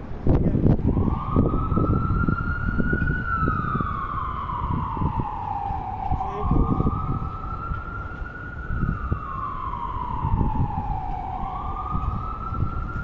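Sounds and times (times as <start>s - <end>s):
emergency siren wailing: 0.7s - 13.0s.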